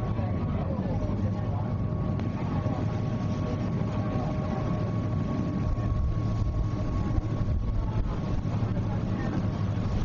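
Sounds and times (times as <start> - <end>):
boat engines droning: 0.0 - 10.0.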